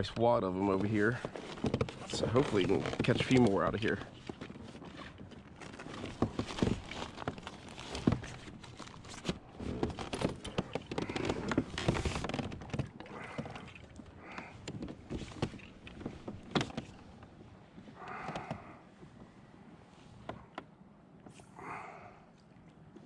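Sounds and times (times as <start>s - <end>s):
knocks and rustling in kayak: 0.0s - 21.4s.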